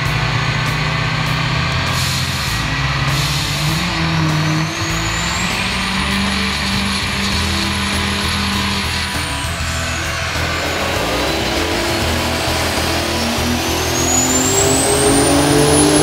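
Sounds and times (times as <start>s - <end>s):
diesel engine running hard: 0.0s - 16.0s
high whine rising in pitch: 0.0s - 16.0s.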